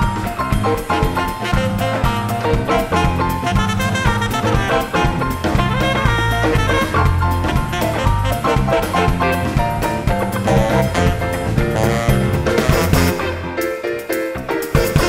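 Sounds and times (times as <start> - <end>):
upbeat swing jazz music: 0.0 - 15.0.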